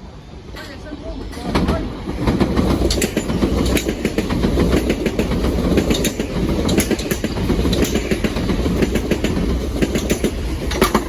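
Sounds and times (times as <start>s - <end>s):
electric train rumbling past: 0.0s - 11.0s
wheels clacking over rail joints: 0.5s - 11.0s.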